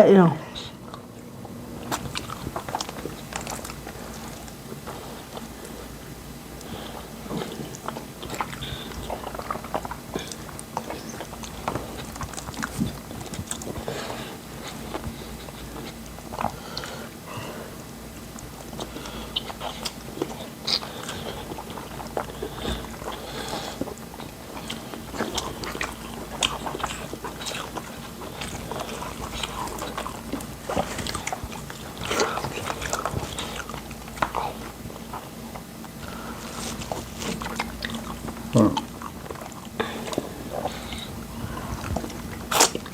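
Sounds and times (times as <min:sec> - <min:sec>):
low steady hum: 0:00.0 - 0:42.9
chewing and mouth noises: 0:00.1 - 0:42.9.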